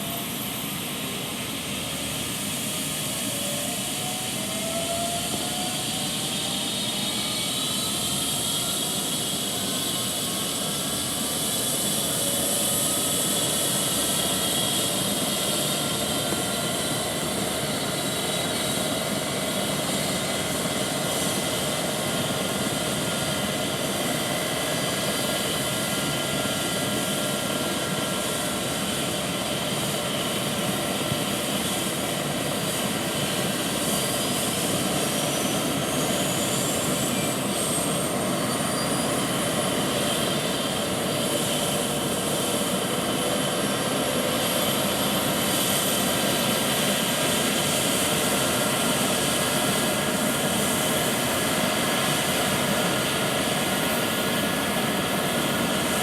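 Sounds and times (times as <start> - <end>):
helicopter engines and rotor running: 0.0 - 56.0
high turbine whine: 0.0 - 56.0.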